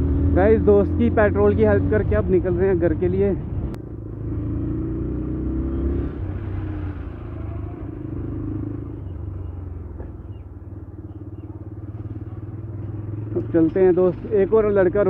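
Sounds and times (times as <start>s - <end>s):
motorcycle engine running: 0.0s - 15.0s
bus passing: 1.5s - 14.8s.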